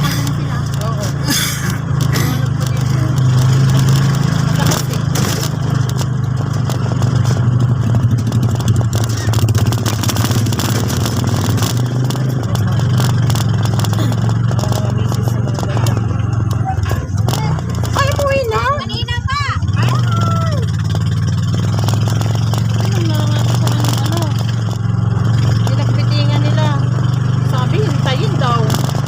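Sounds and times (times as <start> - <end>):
clicks and clatter: 0.0 - 18.9, 19.8 - 29.0
vehicle engine droning: 0.0 - 29.0.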